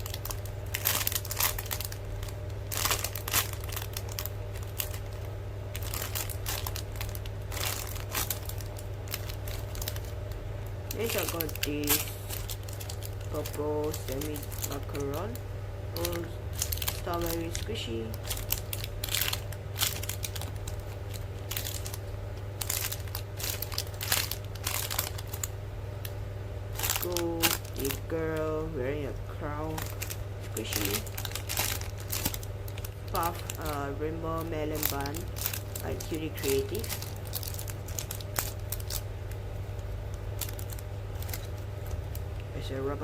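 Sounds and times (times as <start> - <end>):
plastic packaging crinkling: 0.0 - 42.8
steady low hum: 0.0 - 43.0.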